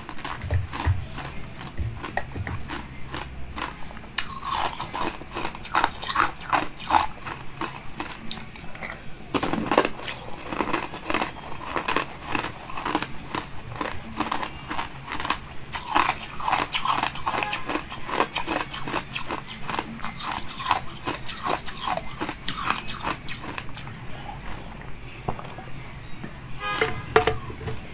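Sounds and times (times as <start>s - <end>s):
crunching and chewing candy: 0.0s - 26.2s.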